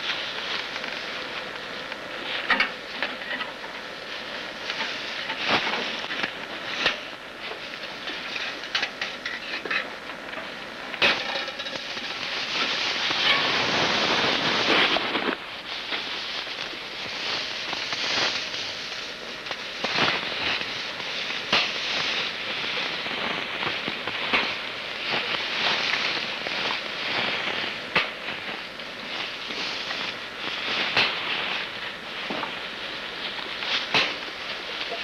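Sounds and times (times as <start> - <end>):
rustling and handling noise: 0.0 - 35.0.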